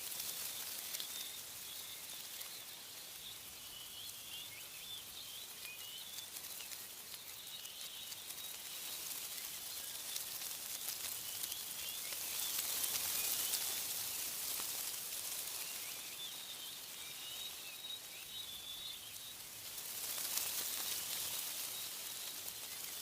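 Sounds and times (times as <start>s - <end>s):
small birds chirping: 0.0s - 23.0s
wind rustling tree leaves: 0.0s - 23.0s.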